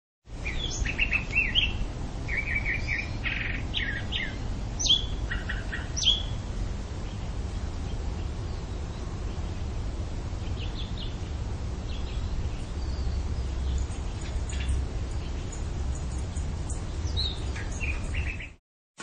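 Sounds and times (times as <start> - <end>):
low background noise: 0.3 - 18.6
downward-sweeping bird calls: 0.4 - 9.4, 10.4 - 18.6
birds chirping: 0.4 - 18.6.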